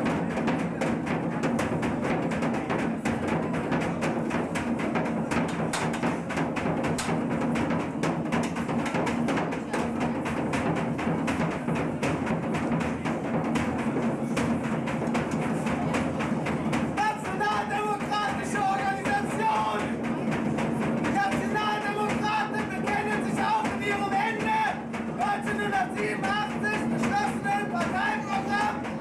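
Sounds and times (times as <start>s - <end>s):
large drum beaten fast: 0.0s - 29.0s.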